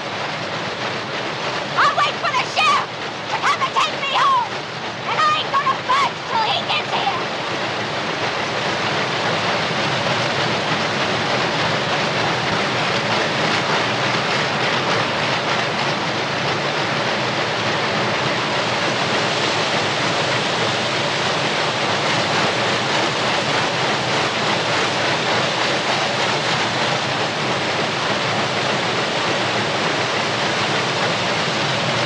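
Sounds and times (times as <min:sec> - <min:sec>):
mill machinery din: 0:00.0 - 0:32.0.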